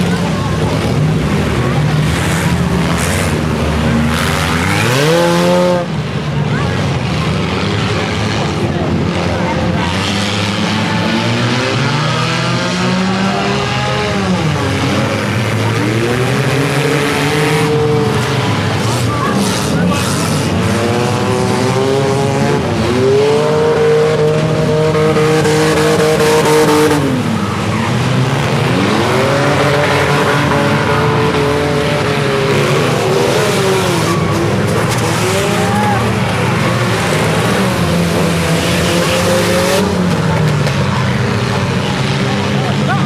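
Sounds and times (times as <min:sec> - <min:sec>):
car engines revving hard: 0:00.0 - 0:43.0.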